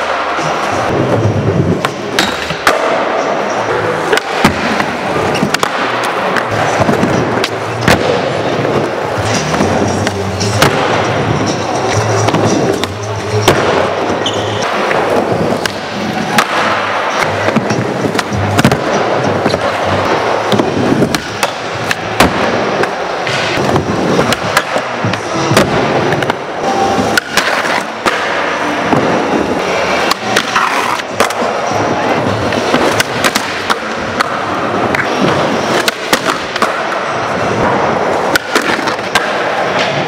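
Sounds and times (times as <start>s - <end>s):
skateboard wheels rolling on concrete: 0.0s - 40.0s
skateboards clacking on surface: 0.0s - 40.0s.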